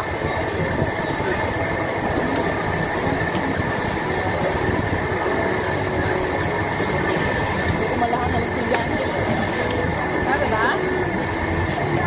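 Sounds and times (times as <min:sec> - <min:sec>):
ventilation hoods rumbling: 0:00.0 - 0:12.0.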